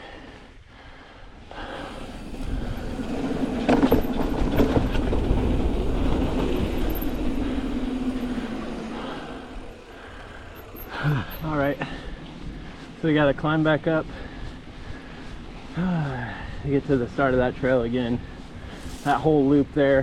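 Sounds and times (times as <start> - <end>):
bike tyre rumble on dirt: 1.3 - 20.0
bike rattling over bumps: 1.5 - 20.0.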